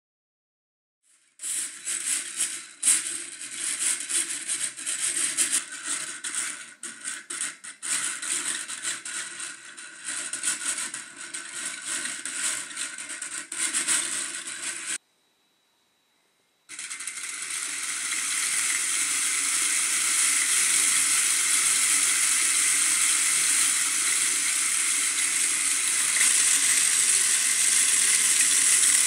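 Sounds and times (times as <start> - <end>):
plastic gears whirring and clicking: 1.4 - 15.0, 16.7 - 29.0.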